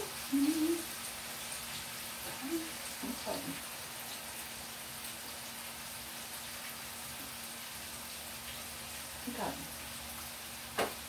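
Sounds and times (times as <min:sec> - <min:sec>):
chips sizzling in a pan: 0:00.0 - 0:11.0.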